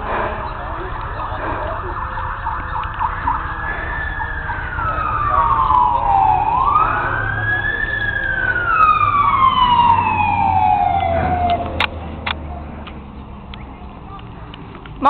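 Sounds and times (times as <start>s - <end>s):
emergency siren wailing: 0.0s - 12.7s.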